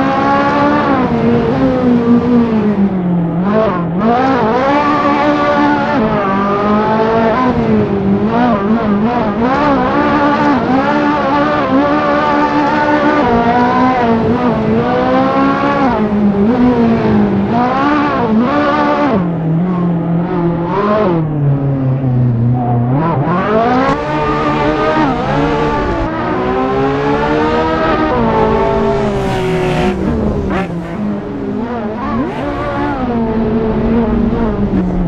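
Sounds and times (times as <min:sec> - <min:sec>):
sports car engine revving: 0:00.0 - 0:35.0.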